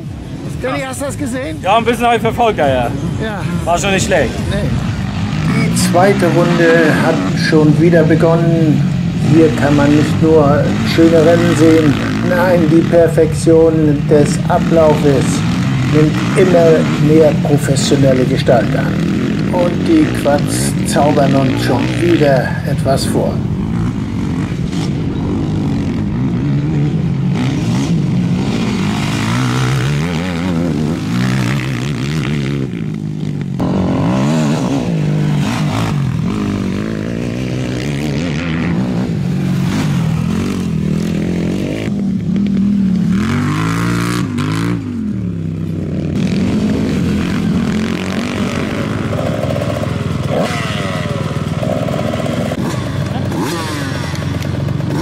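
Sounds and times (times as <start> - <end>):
quad bike engines revving: 0.0 - 55.0.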